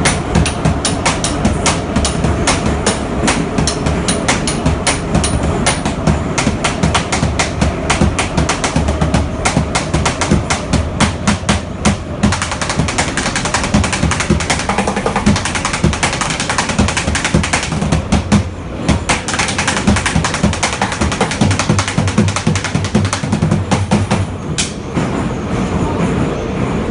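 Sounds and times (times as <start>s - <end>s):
drumming on plastic buckets: 0.0s - 24.3s
metro train rumble: 0.0s - 26.9s.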